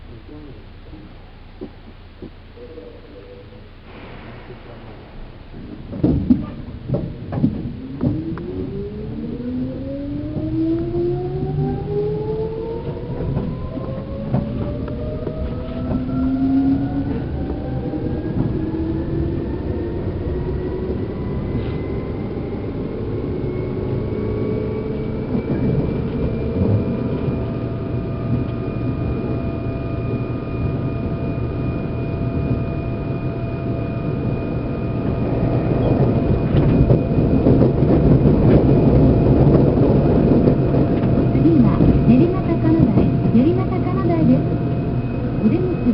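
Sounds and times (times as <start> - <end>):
wheel and rail rumble: 0.0 - 45.9
train motor whine: 0.1 - 45.9.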